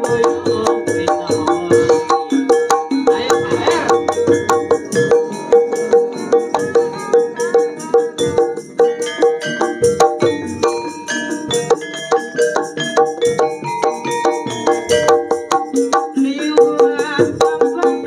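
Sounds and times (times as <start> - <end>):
gamelan ensemble playing: 0.0 - 18.0.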